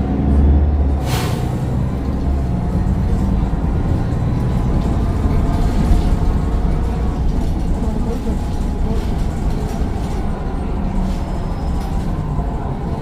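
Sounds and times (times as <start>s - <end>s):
bus diesel engine rumble: 0.0s - 13.0s.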